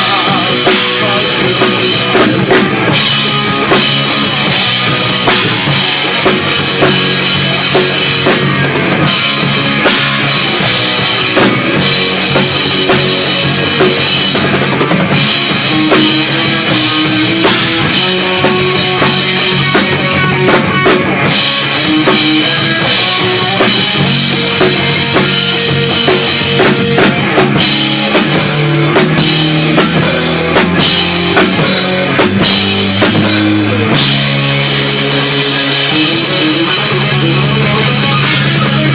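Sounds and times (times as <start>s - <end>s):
rock band music: 0.0s - 38.9s.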